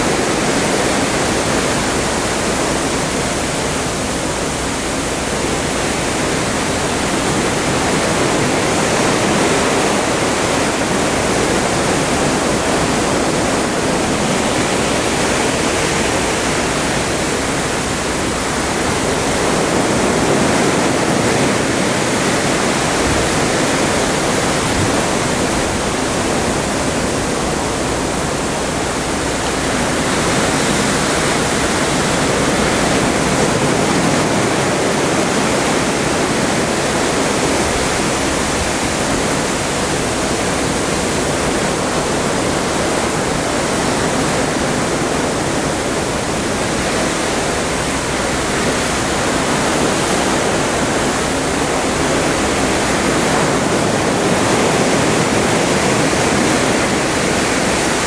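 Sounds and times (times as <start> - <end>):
seawater rushing along ship: 0.0 - 58.0.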